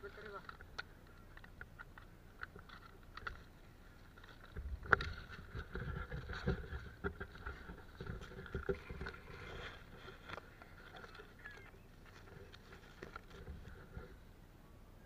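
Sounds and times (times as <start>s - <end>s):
leaves and brush rustling: 0.0s - 14.6s.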